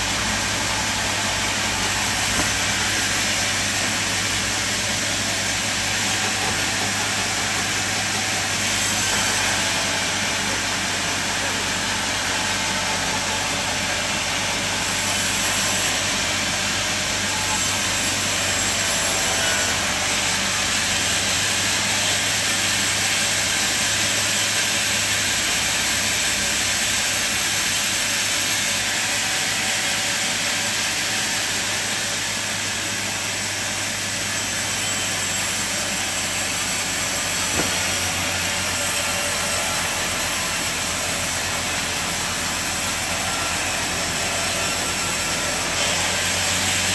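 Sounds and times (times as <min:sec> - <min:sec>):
saw blade hissing through wood: 0:00.0 - 0:46.9.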